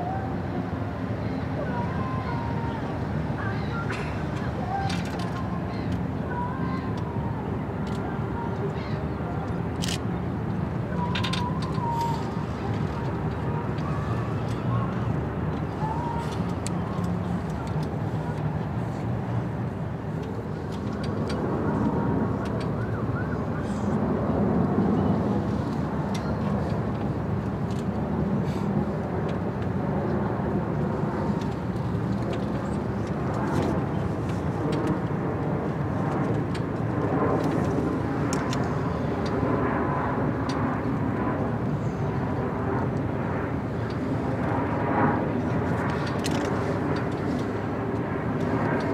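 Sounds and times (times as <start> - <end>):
low outdoor rumble: 0.0 - 48.9.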